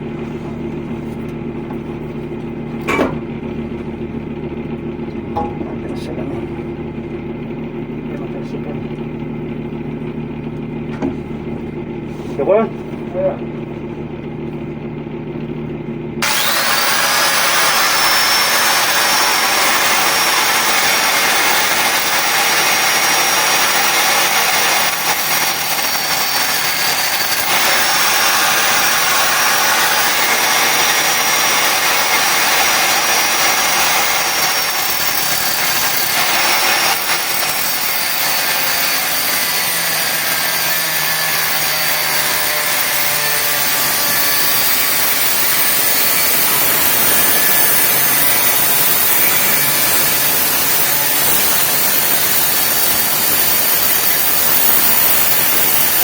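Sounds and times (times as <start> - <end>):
angle grinder whining: 0.0 - 56.0.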